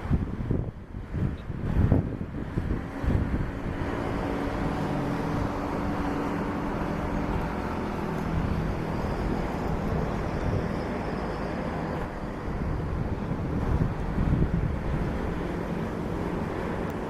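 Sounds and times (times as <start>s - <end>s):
train rumbling past: 2.4s - 17.0s.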